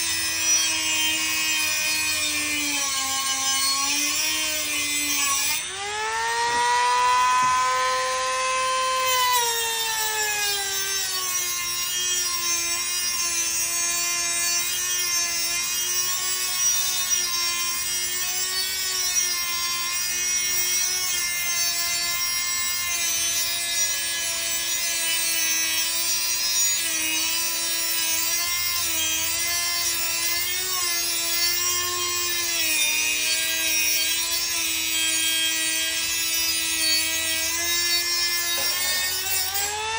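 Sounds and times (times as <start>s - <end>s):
rotary tool cutting metal rod: 0.0s - 39.9s.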